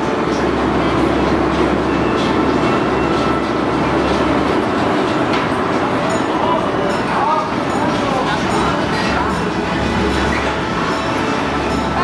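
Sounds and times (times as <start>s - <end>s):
roller coaster cars rumbling on track: 0.0s - 12.0s.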